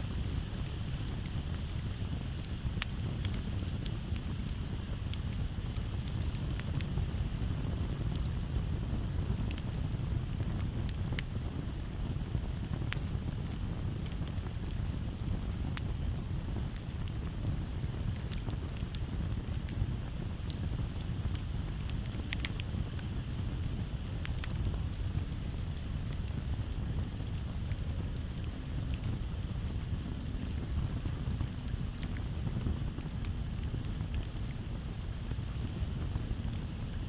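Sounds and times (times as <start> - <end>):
campfire crackling and popping: 0.0 - 37.0
low rush of flame and breeze: 0.0 - 37.0
crickets chirring: 3.7 - 37.0.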